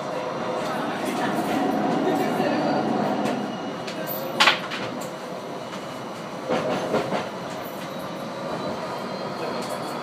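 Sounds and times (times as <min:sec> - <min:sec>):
tram wheels rumbling on rail: 0:00.0 - 0:10.0.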